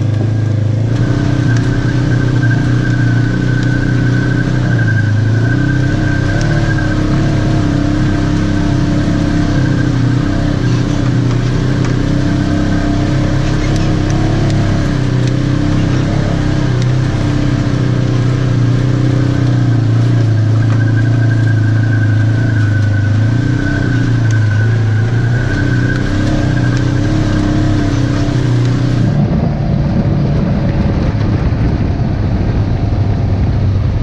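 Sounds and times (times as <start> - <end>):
off-road vehicle engine running: 0.0 - 34.0.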